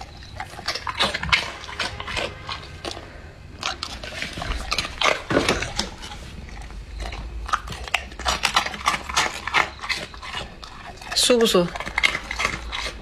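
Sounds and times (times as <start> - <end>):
dog crunching rice cracker: 0.0 - 13.0.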